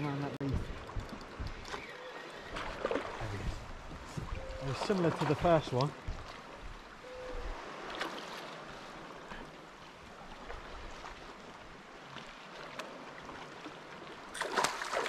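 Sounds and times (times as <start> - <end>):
water splashing and lapping: 0.0 - 15.0.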